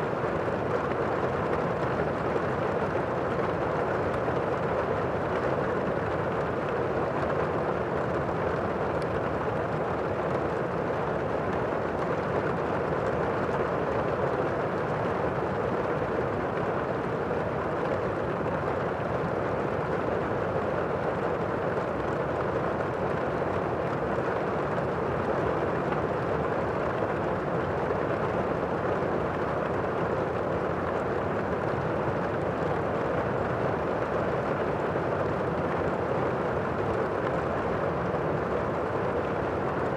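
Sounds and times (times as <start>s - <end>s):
muffled steady rain: 0.0s - 39.9s.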